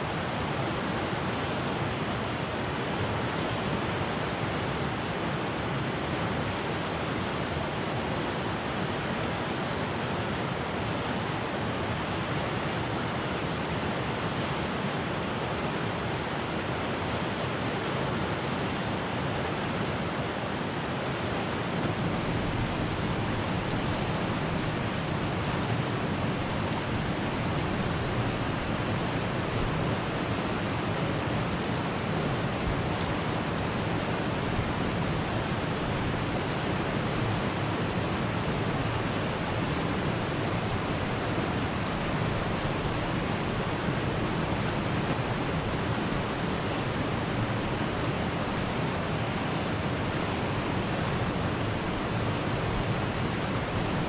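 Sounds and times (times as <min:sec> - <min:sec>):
rushing stream water: 0:00.0 - 0:54.0.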